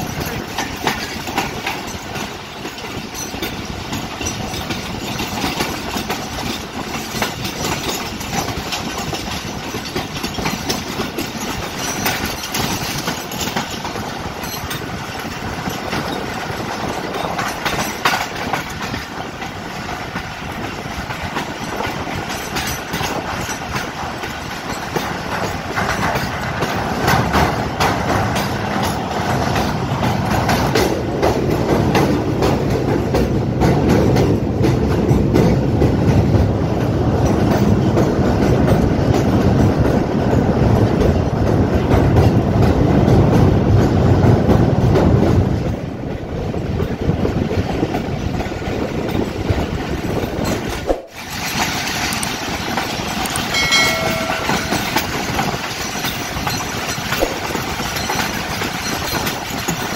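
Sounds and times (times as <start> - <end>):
train wheels rumbling: 0.0 - 59.9
wheels clacking over rail joints: 0.0 - 59.9.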